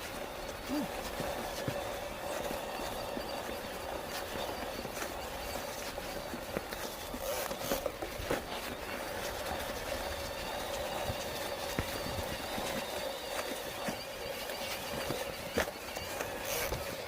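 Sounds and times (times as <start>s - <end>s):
bike rattling clicks and knocks: 0.0s - 17.0s.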